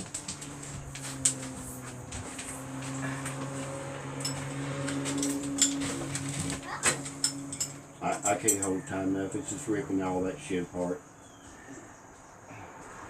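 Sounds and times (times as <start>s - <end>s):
appliance motor hum: 0.0s - 10.9s.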